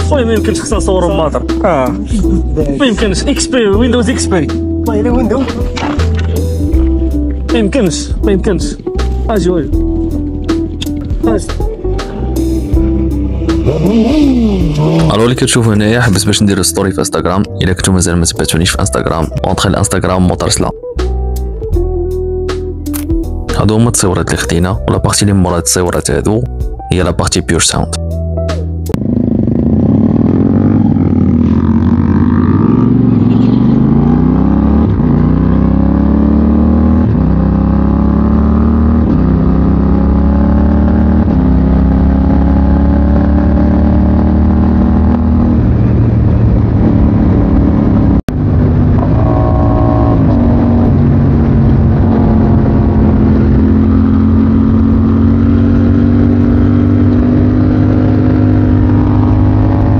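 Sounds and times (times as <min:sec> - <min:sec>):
motorcycle engine accelerating: 0:00.0 - 0:18.1, 0:28.6 - 0:59.9.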